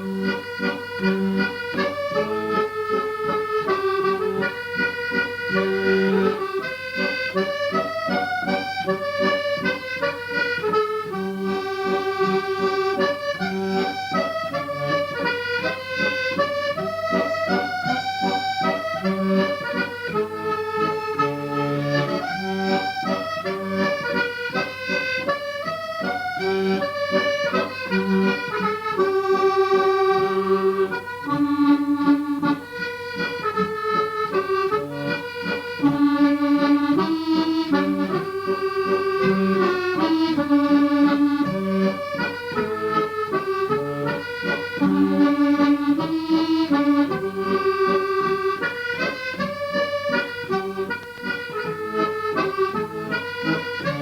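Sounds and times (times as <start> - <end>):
accordion playing: 0.0 - 54.0.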